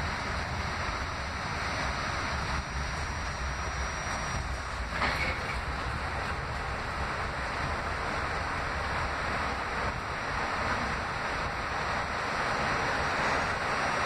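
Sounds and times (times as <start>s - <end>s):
subway car rumbling: 0.0s - 14.0s.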